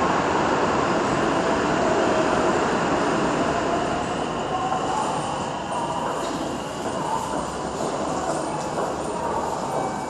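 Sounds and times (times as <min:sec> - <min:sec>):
train wheels on track: 0:00.0 - 0:10.0.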